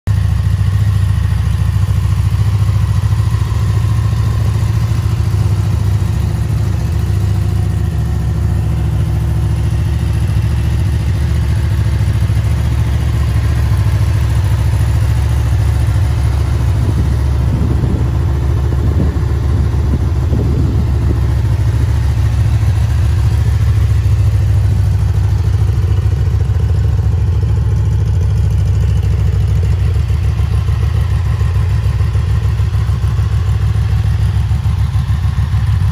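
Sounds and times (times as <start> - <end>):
motorcycle engine idling: 0.1 - 35.9.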